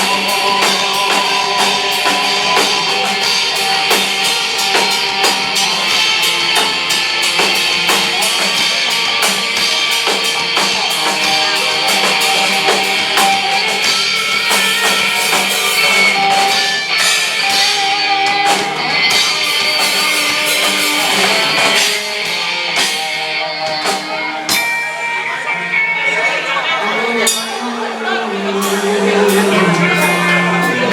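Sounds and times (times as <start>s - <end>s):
live rock band playing: 0.0s - 30.9s.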